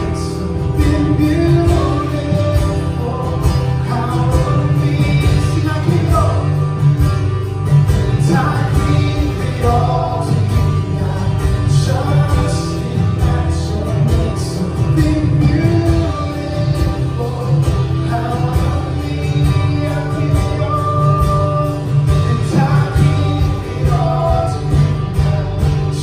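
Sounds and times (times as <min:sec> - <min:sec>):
person singing: 0:00.0 - 0:06.7, 0:08.1 - 0:26.0
worship band playing: 0:00.0 - 0:26.0.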